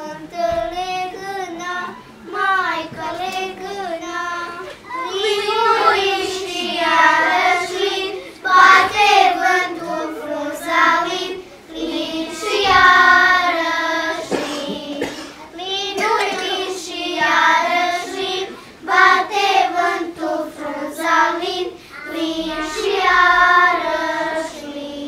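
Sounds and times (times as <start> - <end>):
children singing a slow song: 0.0 - 25.0.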